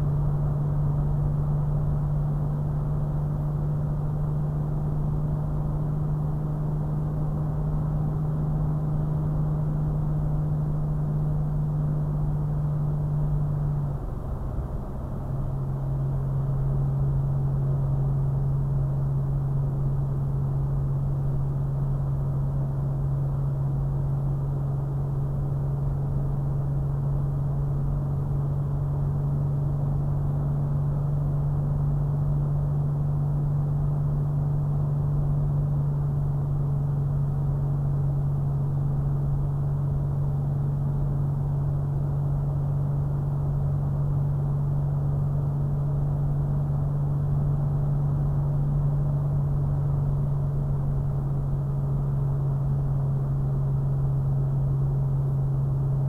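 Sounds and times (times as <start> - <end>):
in-cabin car engine and tyre drone: 0.0 - 56.0.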